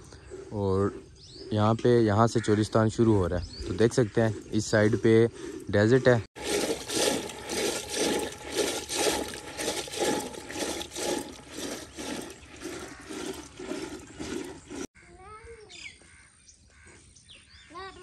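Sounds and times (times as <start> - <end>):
rhythmic sloshing of liquid: 0.1 - 15.0.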